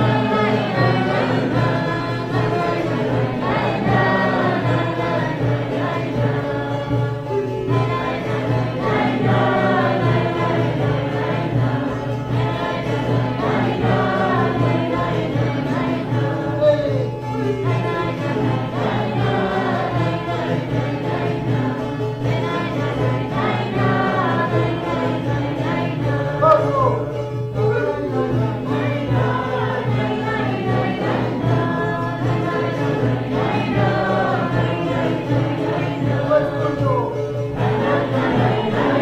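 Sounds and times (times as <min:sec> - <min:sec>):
voices singing in chorus: 0:00.0 - 0:39.0.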